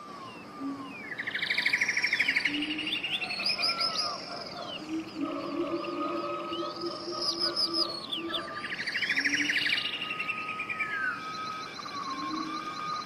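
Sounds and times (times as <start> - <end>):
fast chirping bird trill: 0.2 - 13.0.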